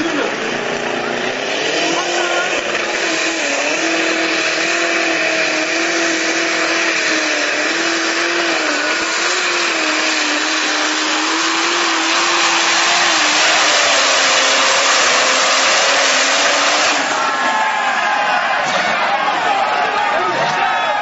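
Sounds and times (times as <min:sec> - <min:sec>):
tractor engine high-pitched drone: 0:00.0 - 0:17.6.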